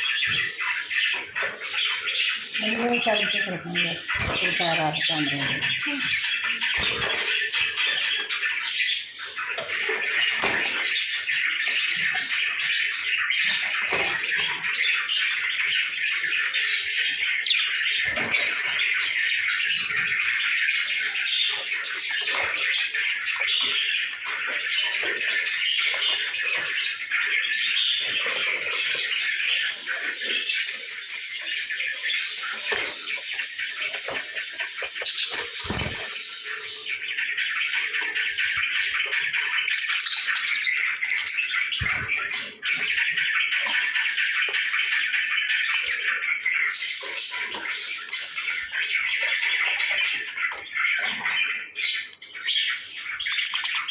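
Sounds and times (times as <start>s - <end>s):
lovebirds chirping and squawking: 0.0s - 53.9s.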